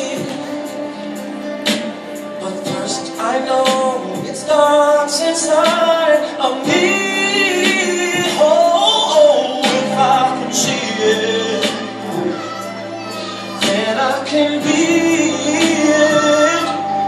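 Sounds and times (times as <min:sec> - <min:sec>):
group of voices singing: 0:02.4 - 0:17.0.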